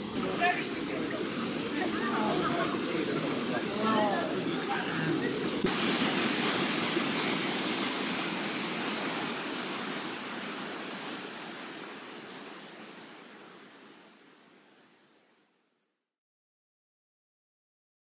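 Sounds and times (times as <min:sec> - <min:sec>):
river rushing over boulders: 0:00.0 - 0:15.2.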